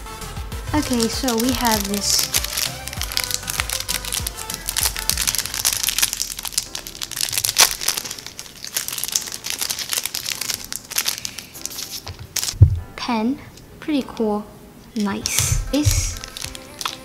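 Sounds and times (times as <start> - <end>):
background music: 0.0 - 17.0
plastic wrapping crinkling: 0.7 - 13.0, 15.0 - 17.0.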